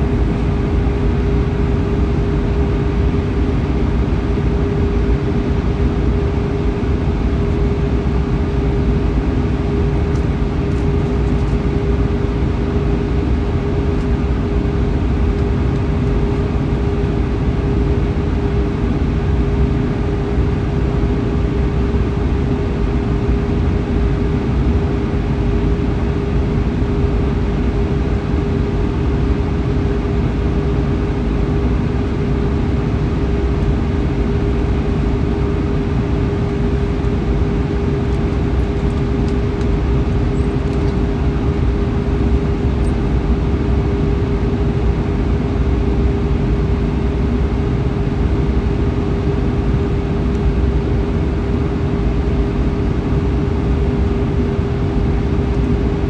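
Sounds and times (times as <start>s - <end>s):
airplane engines and airflow rumble: 0.0s - 56.0s
constant mid-pitched hum: 0.0s - 56.0s.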